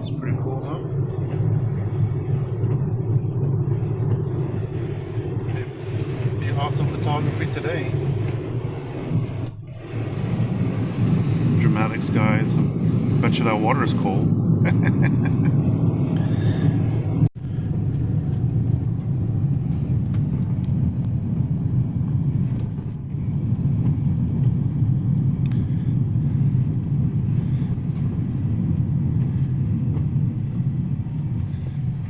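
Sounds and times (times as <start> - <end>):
road and engine rumble in car: 0.0 - 32.0.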